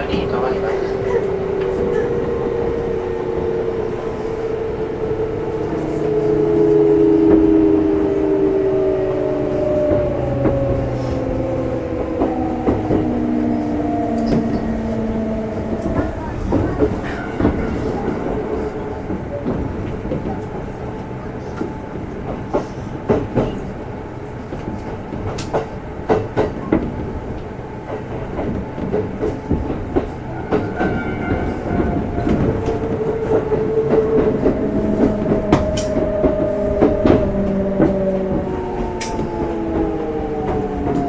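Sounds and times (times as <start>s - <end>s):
train running rumble: 0.0s - 41.0s.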